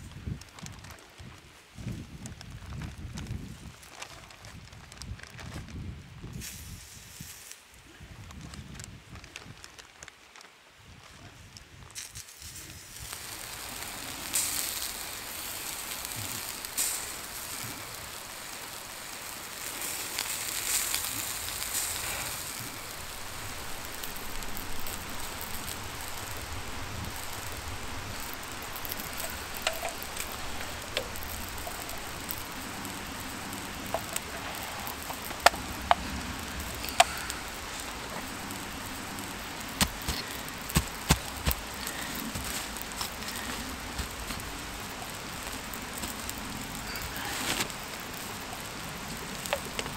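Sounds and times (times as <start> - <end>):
campfire hissing and crackling: 0.0 - 49.9.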